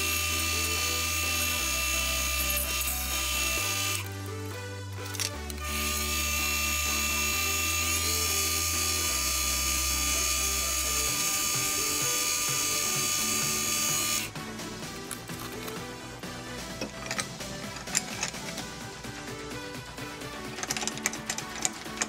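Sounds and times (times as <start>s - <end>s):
background music with bass notes: 0.0s - 22.0s
lathe spindle whining: 0.0s - 22.0s.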